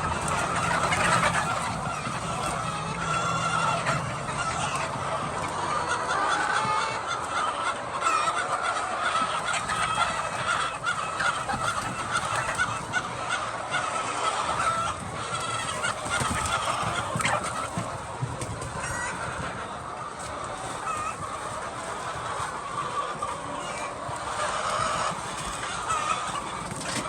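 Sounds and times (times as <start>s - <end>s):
hens clucking and squawking: 0.0s - 27.0s.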